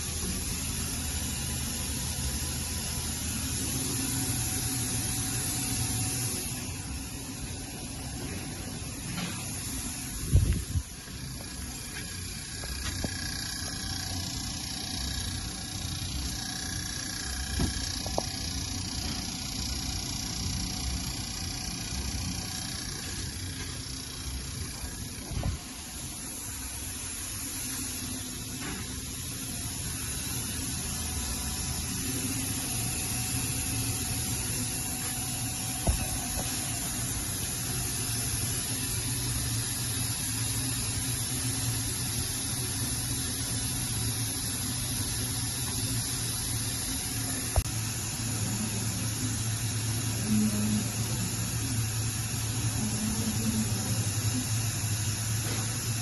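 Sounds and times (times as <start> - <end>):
machine hum with hiss: 0.0 - 56.0.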